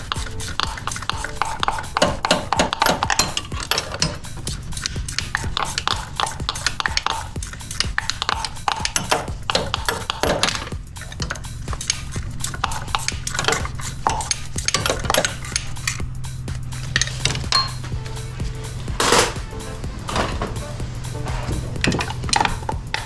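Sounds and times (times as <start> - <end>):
metal tools clinking: 0.0 - 16.0, 16.9 - 20.6
background music with drone: 0.0 - 23.0.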